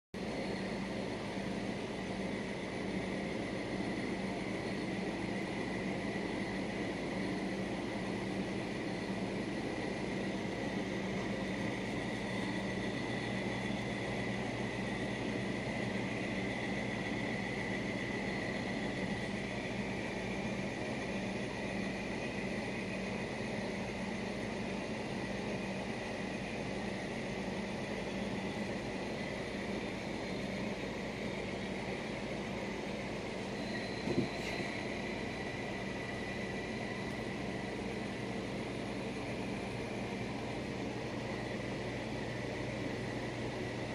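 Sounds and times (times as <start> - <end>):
background hum and hiss: 0.2 - 43.9
faint high whine: 0.2 - 43.9.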